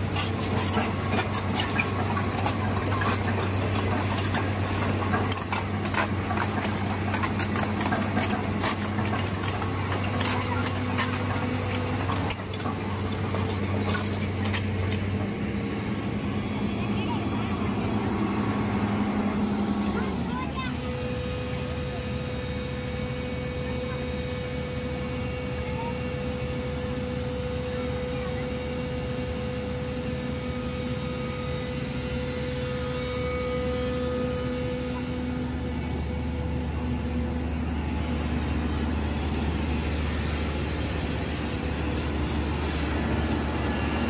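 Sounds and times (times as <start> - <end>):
diesel engine droning: 0.0 - 44.0
thin steady whine: 2.1 - 44.0.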